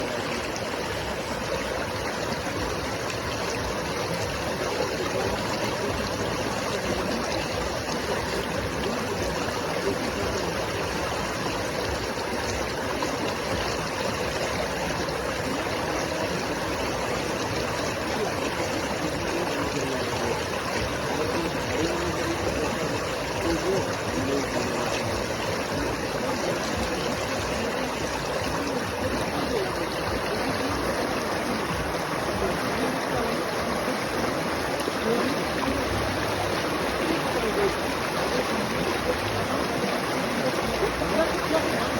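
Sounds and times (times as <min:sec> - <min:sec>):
river water rushing over rocks: 0:00.0 - 0:41.9.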